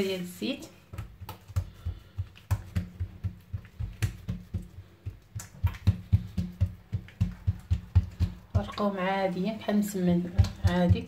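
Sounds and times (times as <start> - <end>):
hand patting dough: 0.6 - 11.0.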